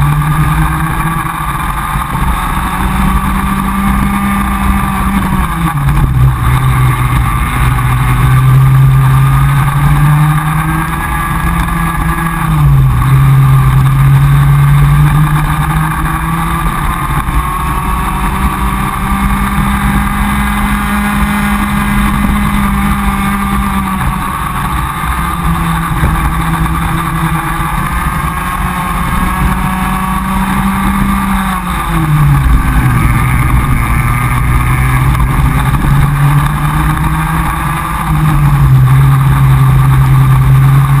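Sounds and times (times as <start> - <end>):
kart engine at racing speed: 0.0 - 41.0.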